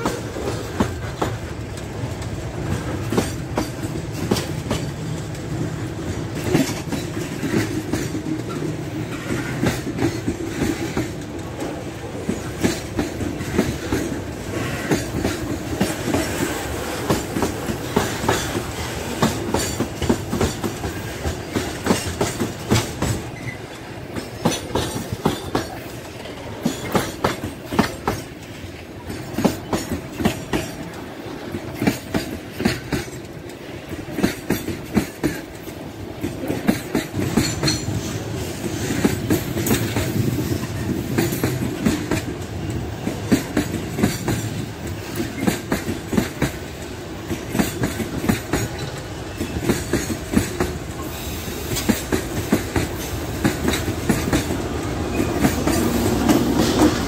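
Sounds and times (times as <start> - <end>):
diesel locomotive: 0.0 - 57.0
freight train rumbling past: 0.0 - 57.0
wheels clacking over rail joints: 0.0 - 57.0.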